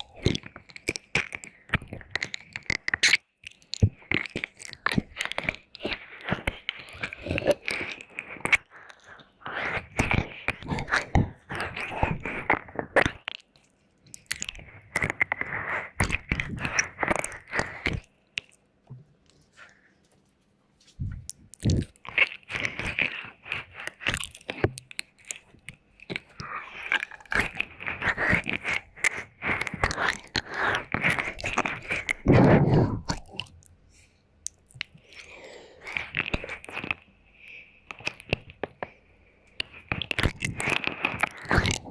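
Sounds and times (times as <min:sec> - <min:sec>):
wet mouth sounds and licking: 0:00.0 - 0:18.6, 0:20.9 - 0:41.9.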